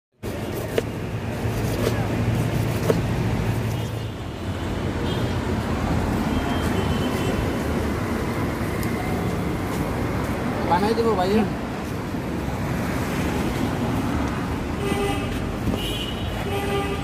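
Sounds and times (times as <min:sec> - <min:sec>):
street traffic rumble: 0:00.1 - 0:17.0.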